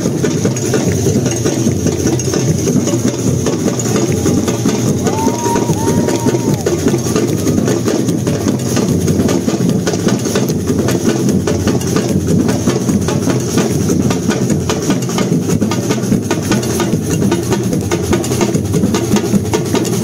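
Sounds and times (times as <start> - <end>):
drum ensemble playing: 0.0 - 20.0.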